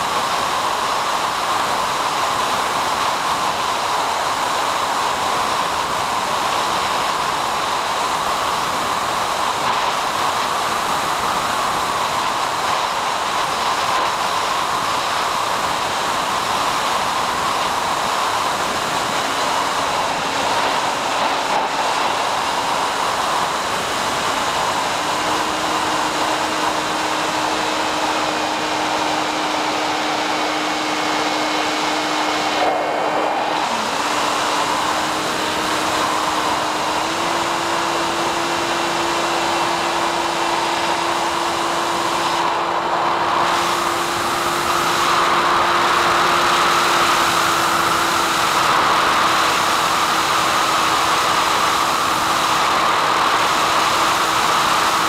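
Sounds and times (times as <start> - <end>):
electric motor and propeller droning: 0.0 - 55.0
video link static hiss: 0.0 - 55.0.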